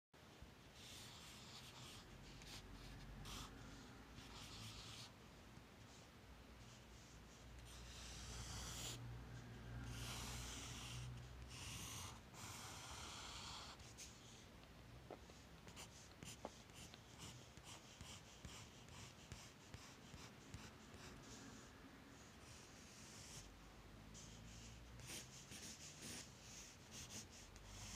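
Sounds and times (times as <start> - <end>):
pencil scratching on paper: 0.8 - 5.2, 6.6 - 14.2, 15.3 - 21.6, 22.4 - 23.5, 24.2 - 27.9.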